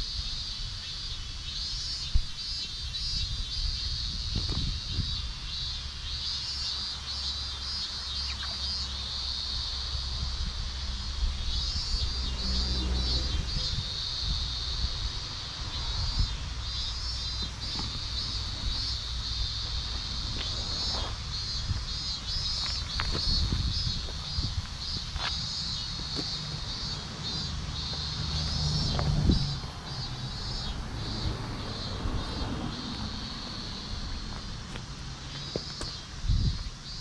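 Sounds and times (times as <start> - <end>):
wind rumble on microphone: 0.0 - 6.2, 9.6 - 37.0
high insect chirping: 0.0 - 37.0
insects shrilling: 0.0 - 37.0.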